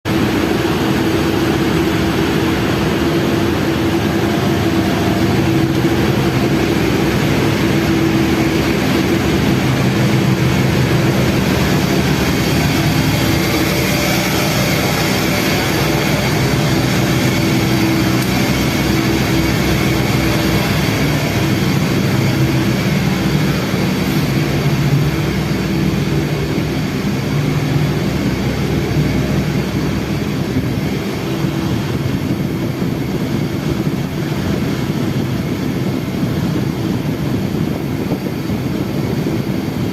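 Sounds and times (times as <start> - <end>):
vehicle engine running: 0.0 - 39.9
rushing noise: 0.1 - 39.9.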